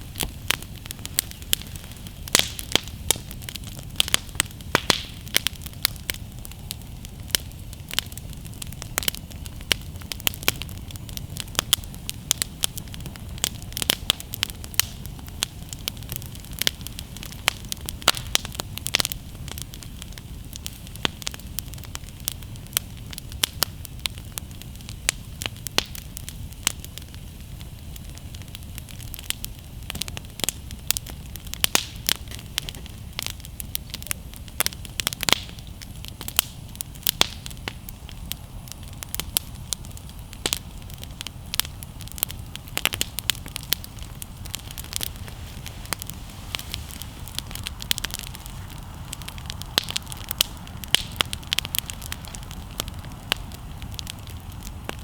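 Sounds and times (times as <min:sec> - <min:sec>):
campfire crackling and popping: 0:00.0 - 0:55.0
low rumble of flames: 0:00.0 - 0:55.0.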